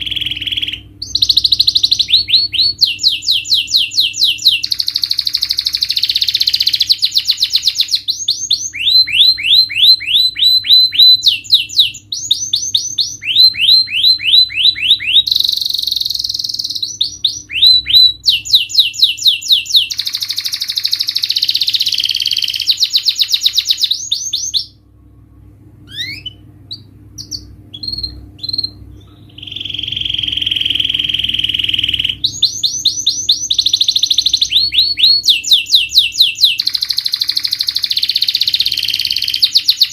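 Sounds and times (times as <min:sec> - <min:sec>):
canary singing fast trills: 0:00.0 - 0:24.8, 0:25.9 - 0:39.9
scattered bird chirps: 0:00.0 - 0:24.8, 0:25.9 - 0:39.9.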